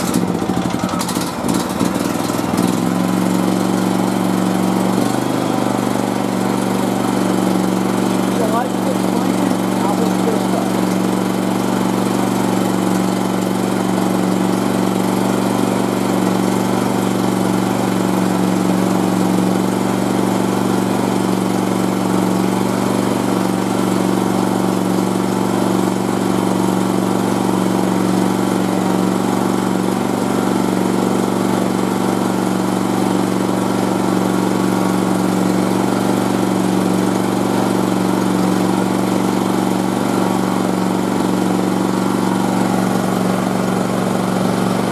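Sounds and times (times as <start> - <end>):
generator engines humming: 0.0 - 44.9.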